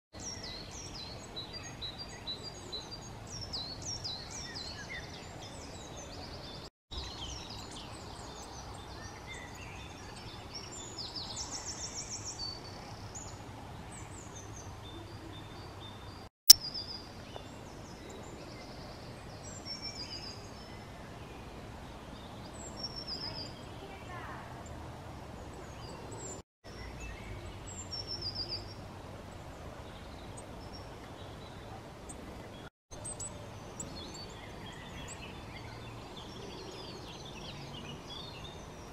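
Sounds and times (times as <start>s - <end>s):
songbirds chirping and singing: 0.2s - 24.4s, 25.4s - 38.9s
outdoor background hiss: 0.2s - 38.9s.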